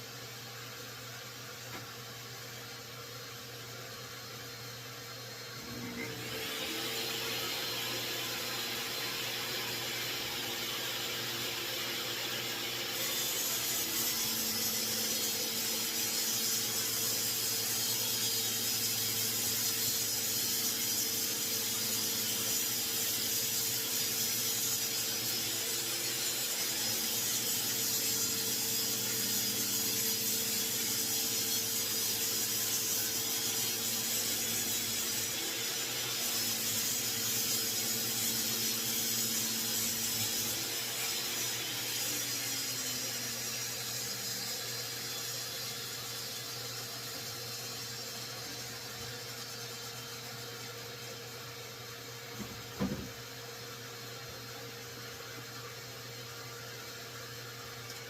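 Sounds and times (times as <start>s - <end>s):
table saw cutting wood: 5.2s - 53.2s.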